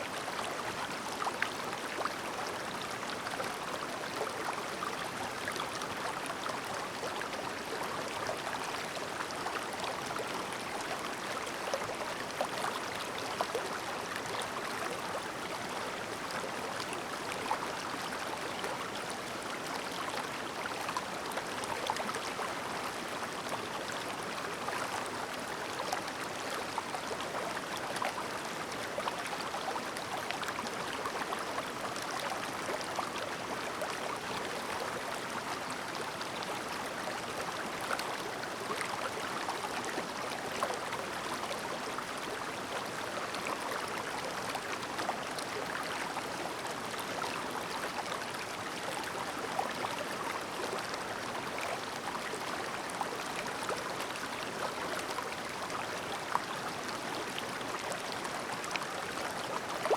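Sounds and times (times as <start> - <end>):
stream babbling over stones: 0.1 - 59.9.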